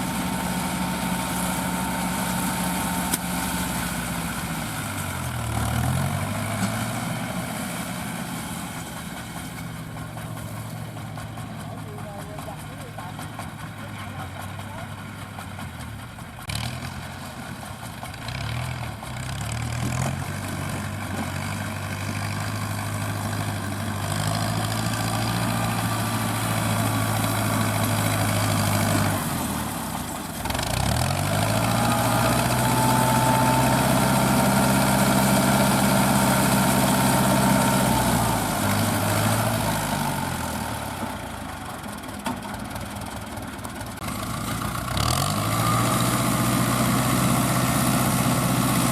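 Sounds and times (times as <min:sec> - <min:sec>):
tractor diesel engine: 0:00.0 - 0:48.9
baler working: 0:00.1 - 0:48.9.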